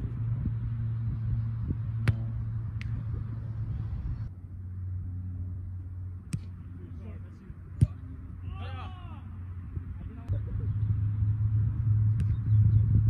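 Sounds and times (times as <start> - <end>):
low rumble and hum: 0.0 - 13.0.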